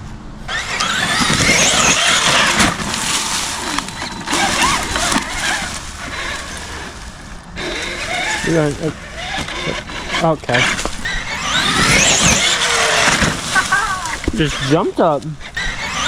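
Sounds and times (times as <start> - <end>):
tyres churning ground: 0.0 - 16.0
rc truck motor whining: 0.4 - 16.0.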